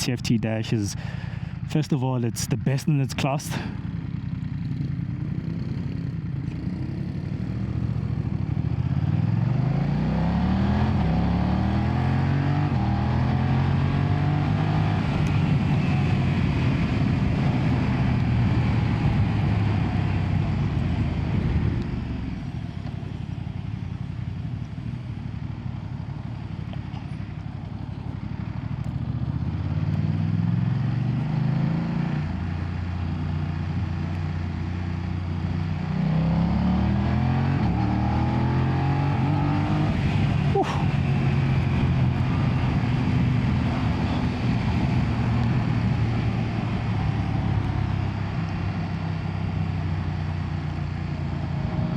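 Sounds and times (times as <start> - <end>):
motorcycle engine accelerating: 3.6 - 51.9.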